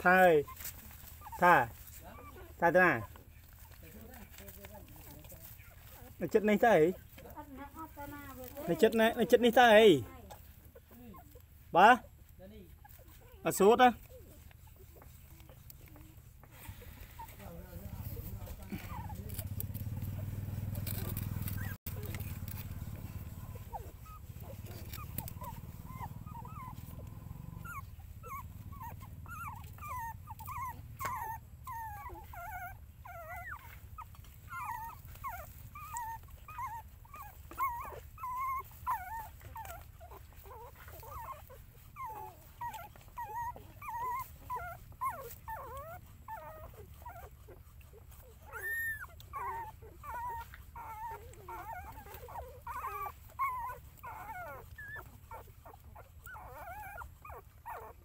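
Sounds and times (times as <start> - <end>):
puppies whimpering and squeaking: 0.0 - 58.0.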